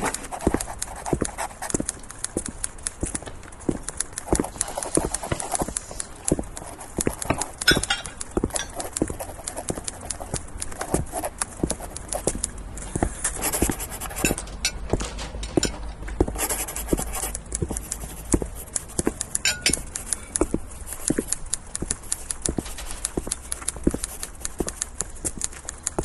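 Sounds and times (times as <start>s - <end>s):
irregular clicks and knocks: 0.0s - 26.0s
steady low hum: 0.0s - 26.0s.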